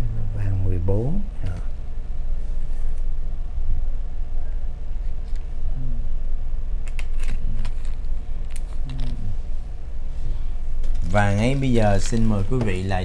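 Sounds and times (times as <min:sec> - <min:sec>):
faint low murmurs: 0:00.0 - 0:06.6, 0:07.2 - 0:13.0
low hum and rumble: 0:00.0 - 0:13.0.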